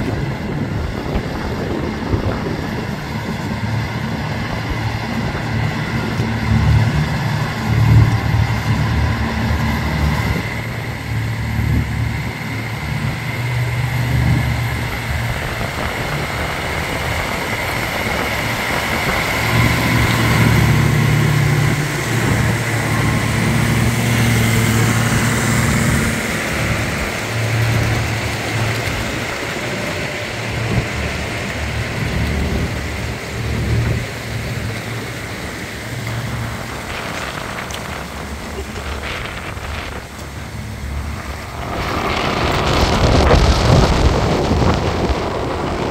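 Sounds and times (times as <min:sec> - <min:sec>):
tractor engines under load: 0:00.0 - 0:45.9
wind buffeting microphone: 0:00.0 - 0:45.9.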